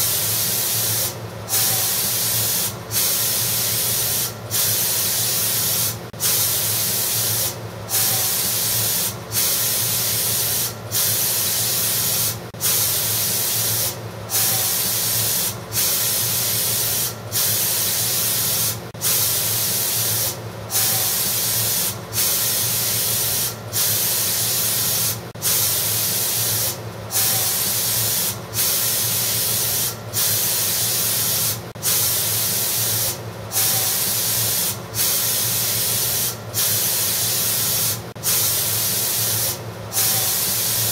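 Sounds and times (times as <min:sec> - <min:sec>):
spray gun hissing: 0:00.1 - 0:40.9.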